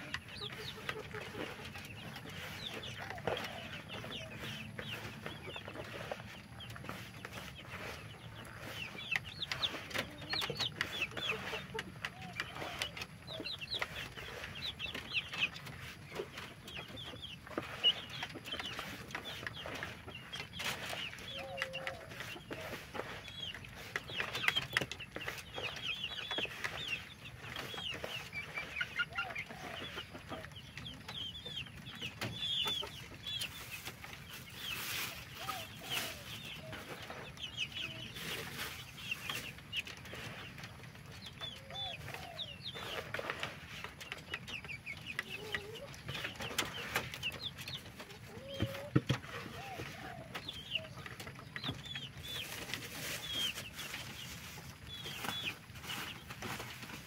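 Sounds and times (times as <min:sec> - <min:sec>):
chicken clucking: 0:00.0 - 0:57.0
chicks cheeping: 0:00.0 - 0:57.0.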